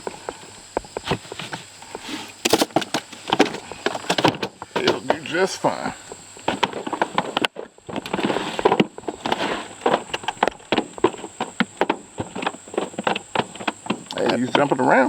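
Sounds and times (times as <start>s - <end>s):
fish flopping and thrashing: 0.0s - 14.6s.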